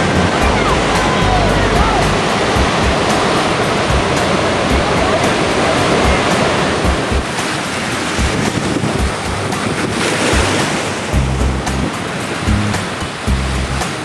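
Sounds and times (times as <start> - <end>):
background music with low beats: 0.0 - 14.0
water rushing from spillway: 0.0 - 14.0.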